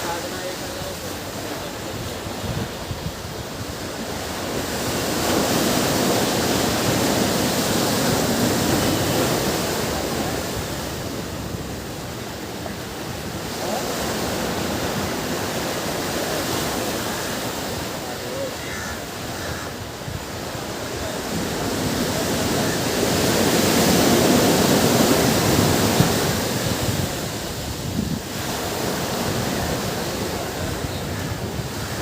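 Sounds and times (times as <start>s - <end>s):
ocean waves washing on beach: 0.0s - 32.0s.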